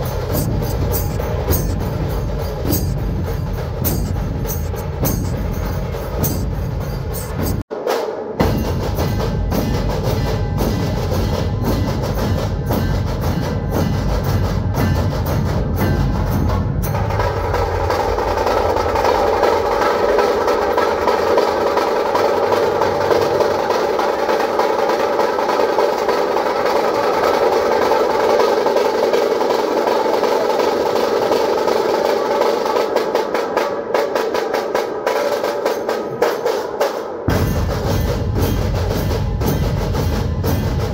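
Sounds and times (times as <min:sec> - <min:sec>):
dhol barrel drums beaten: 0:00.0 - 0:40.9
snare drums rattling: 0:00.0 - 0:40.9.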